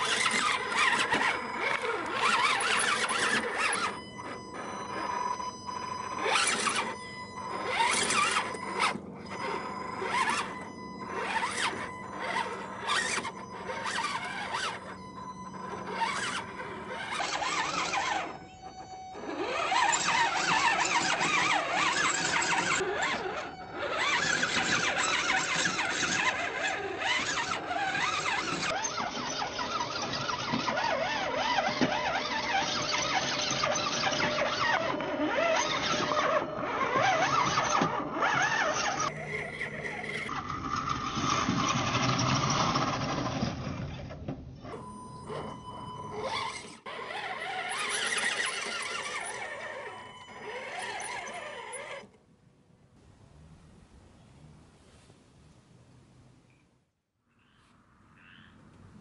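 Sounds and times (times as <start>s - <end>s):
tires scraping on stones: 0.0s - 52.1s
electric motor and gears whining: 0.0s - 52.2s.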